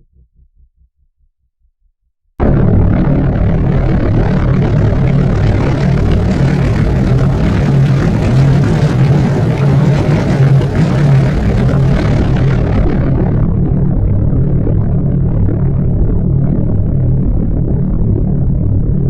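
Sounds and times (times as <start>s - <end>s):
propeller aircraft motor droning: 2.4s - 19.0s.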